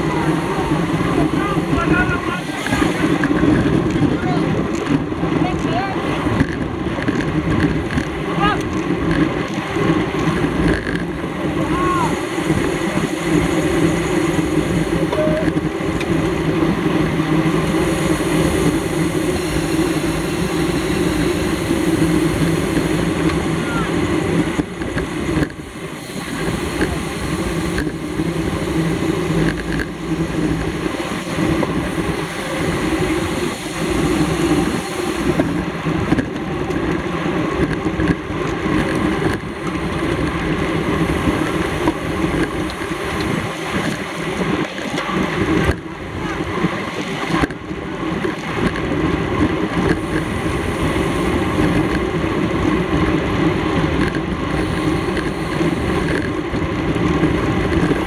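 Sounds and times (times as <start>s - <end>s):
bicycle road noise: 0.0s - 58.0s.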